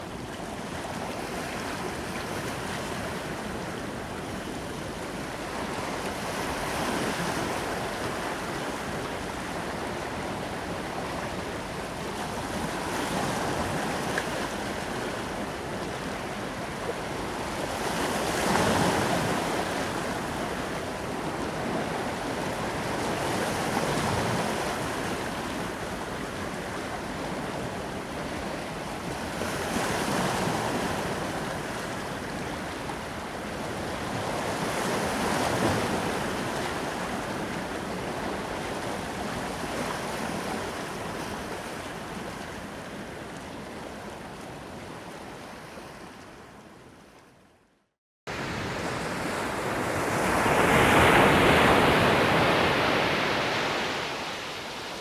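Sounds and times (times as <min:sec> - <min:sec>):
ocean waves breaking on beach: 0:00.0 - 0:46.1, 0:48.3 - 0:55.0.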